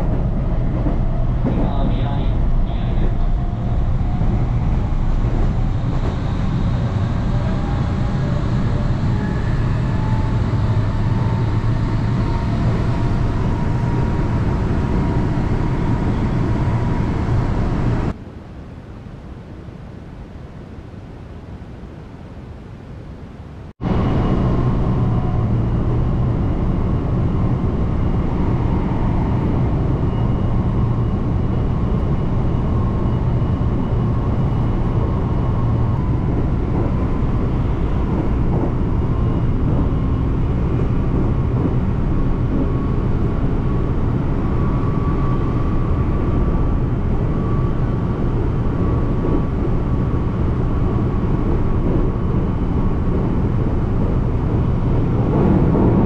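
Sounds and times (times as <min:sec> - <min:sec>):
train wheels rumbling on rails: 0:00.0 - 0:18.2, 0:23.8 - 0:56.0.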